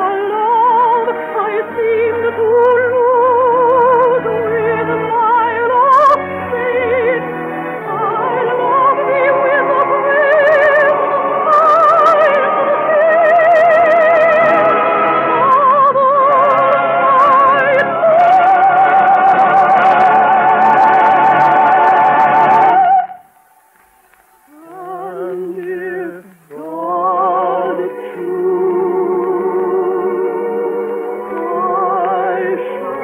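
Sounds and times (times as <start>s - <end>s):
slow orchestral melody: 0.0s - 33.0s.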